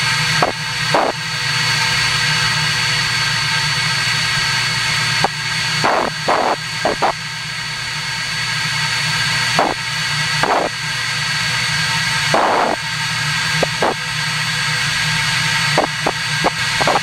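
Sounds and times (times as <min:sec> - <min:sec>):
central vacuum running: 0:00.0 - 0:17.0.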